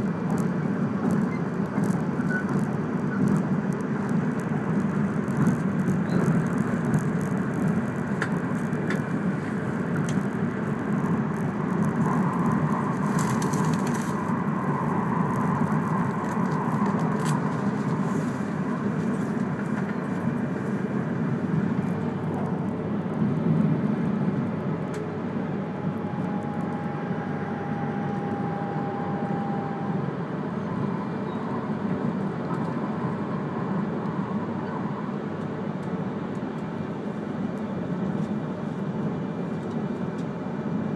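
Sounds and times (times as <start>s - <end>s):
train wheels on rails: 0.0s - 40.8s
faint steady whine: 0.0s - 40.9s.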